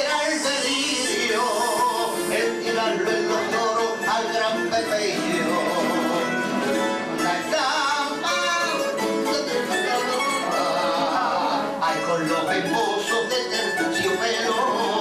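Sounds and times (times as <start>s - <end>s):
person singing: 0.0s - 15.0s
plucked string trio: 1.1s - 15.0s.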